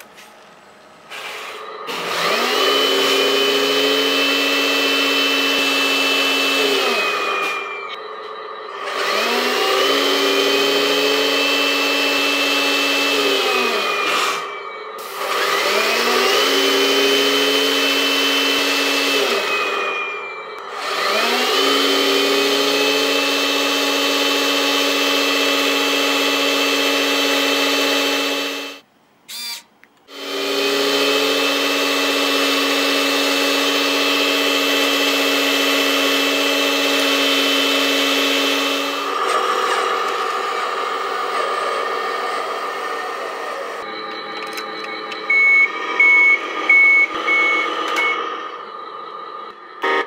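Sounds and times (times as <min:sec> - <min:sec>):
electric motor and gears whining: 0:00.0 - 0:50.0.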